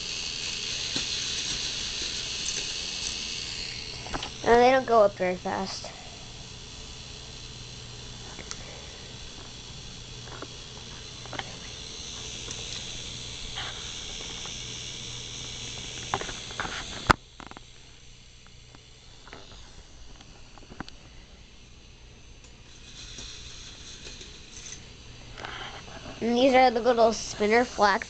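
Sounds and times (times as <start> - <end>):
toy chain lift motor whirring: 0.0 - 19.7, 22.3 - 28.0.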